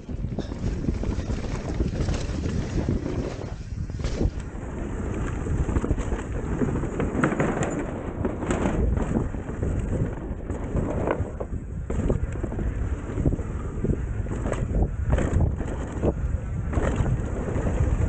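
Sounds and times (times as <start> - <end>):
bike knocking and rattling: 0.0 - 18.0
tyres rumbling on dirt: 0.0 - 18.0
wind buffeting microphone: 0.0 - 18.0.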